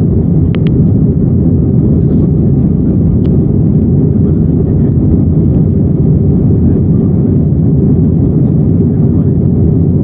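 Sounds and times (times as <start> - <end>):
jet engines and airflow in cabin: 0.0 - 10.0.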